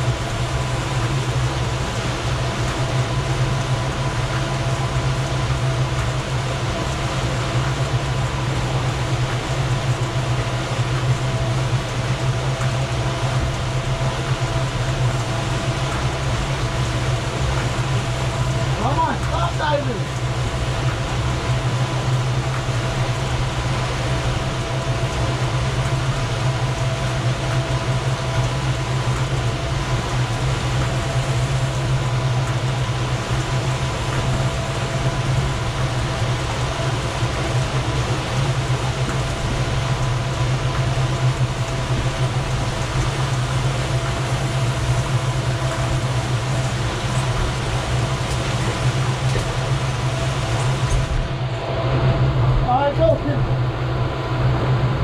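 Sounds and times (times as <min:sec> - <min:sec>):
outboard motors droning: 0:00.0 - 0:55.0
wake water rushing: 0:00.0 - 0:55.0.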